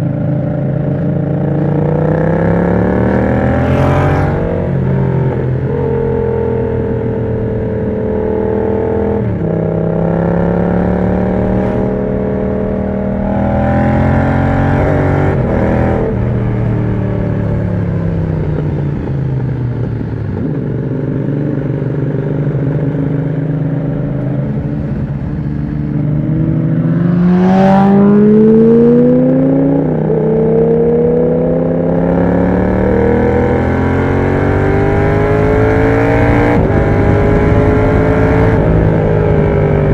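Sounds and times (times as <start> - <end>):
motorcycle engine revving: 0.1 - 39.9.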